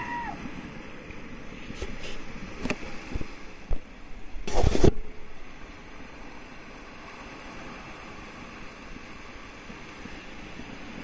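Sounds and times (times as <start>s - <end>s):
sea surf against rocks: 0.0s - 11.0s
wind on microphone: 0.0s - 11.0s.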